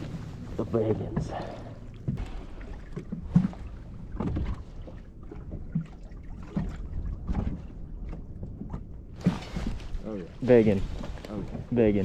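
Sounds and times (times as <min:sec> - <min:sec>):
light knocks and bumps: 0:00.9 - 0:11.8.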